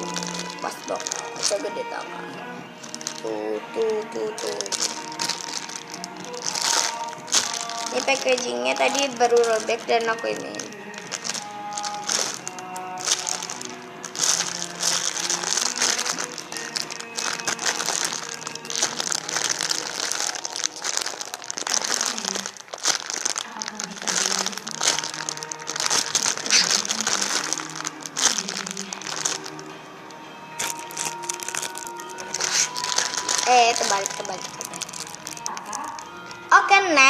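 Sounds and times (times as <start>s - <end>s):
plastic packaging crinkling: 0.0s - 36.8s
background music: 0.0s - 37.0s.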